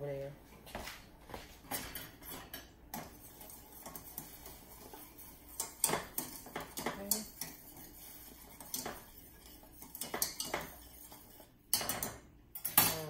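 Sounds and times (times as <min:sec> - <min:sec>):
utensil clinking against saucepan: 0:01.7 - 0:13.0.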